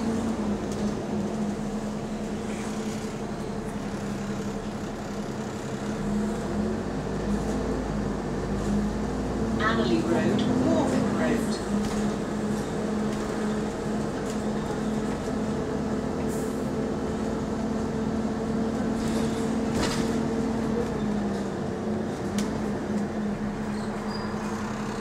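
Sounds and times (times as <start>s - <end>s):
bus interior engine drone: 0.0s - 25.0s.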